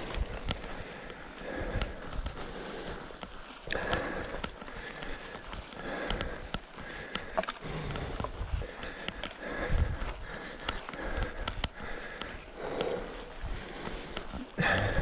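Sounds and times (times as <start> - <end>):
bike clicks and rattles: 0.0 - 15.0
person breathing hard: 0.0 - 15.0.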